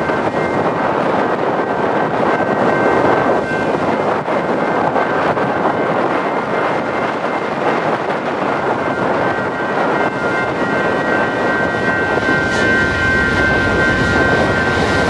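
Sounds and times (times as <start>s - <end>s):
railroad crossing bells ringing: 0.0s - 15.0s
wind rushing on microphone: 0.0s - 15.0s.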